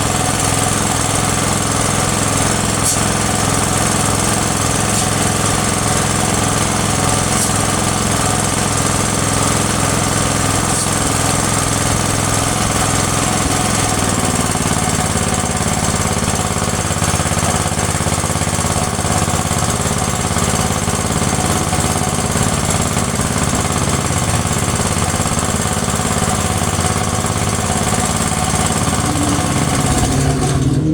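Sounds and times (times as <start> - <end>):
pressure washer machine rattling: 0.0 - 30.9.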